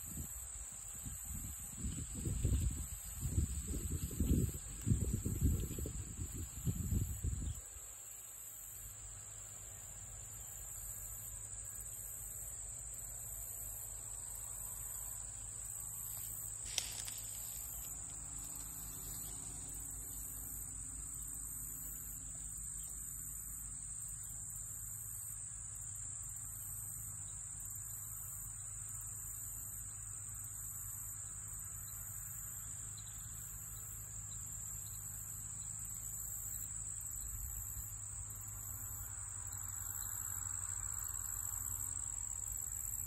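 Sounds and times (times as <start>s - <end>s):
insects chorus: 0.0s - 43.0s.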